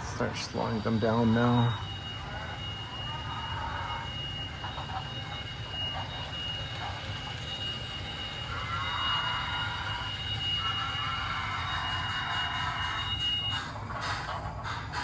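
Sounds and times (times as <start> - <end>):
model train wheels rolling on track: 0.0 - 15.0.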